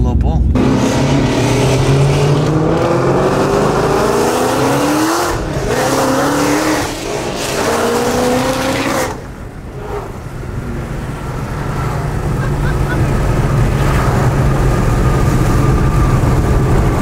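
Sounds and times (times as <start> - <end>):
car engine accelerating hard: 0.5 - 17.0.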